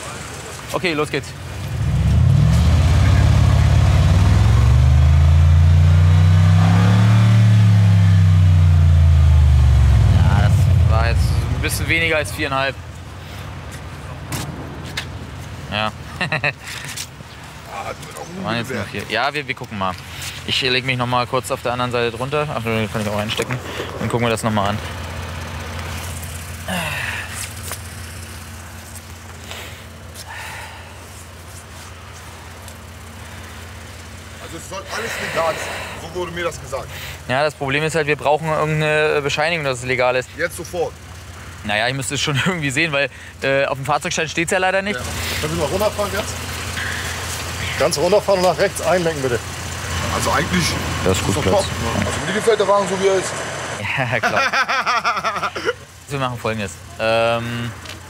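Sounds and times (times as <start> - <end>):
car engine at high revs: 0.0 - 19.1, 20.0 - 43.4, 44.7 - 58.0.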